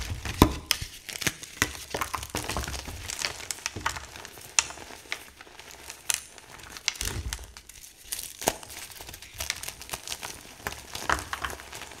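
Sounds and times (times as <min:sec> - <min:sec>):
chalk crumbling between hands: 0:00.0 - 0:12.0.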